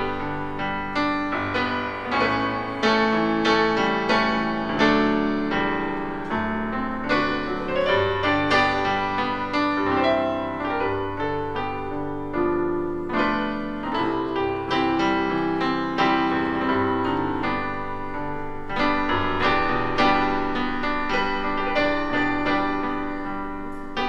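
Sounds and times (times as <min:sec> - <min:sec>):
piano chords and melody: 0:00.0 - 0:24.0.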